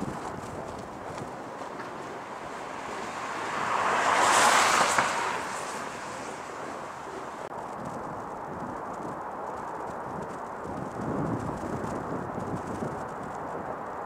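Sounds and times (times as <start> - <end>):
car tyres passing: 0.0 - 14.0.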